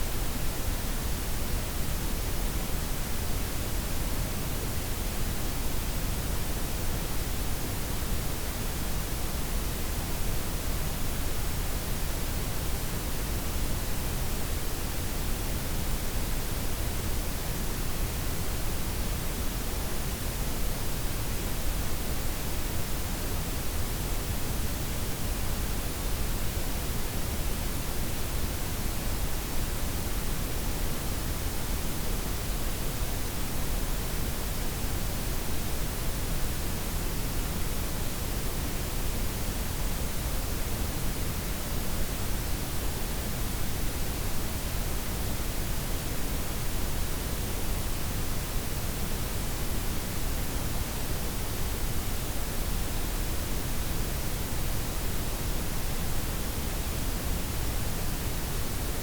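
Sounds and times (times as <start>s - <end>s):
steady synthetic noise hiss: 0.0s - 59.0s.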